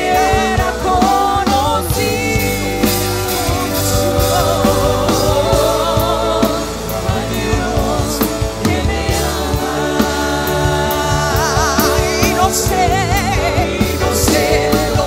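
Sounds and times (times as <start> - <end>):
band playing: 0.0 - 15.0.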